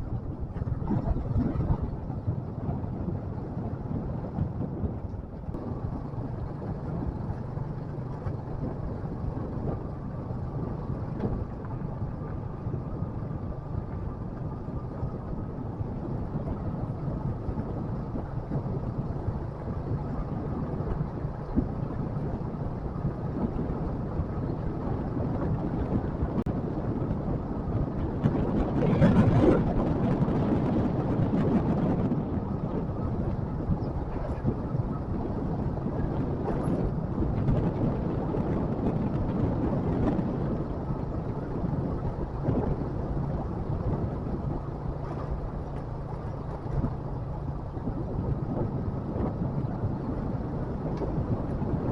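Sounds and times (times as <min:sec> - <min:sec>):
motorcycle engine rumbling: 0:00.0 - 0:51.9
wind noise on microphone: 0:00.0 - 0:51.9.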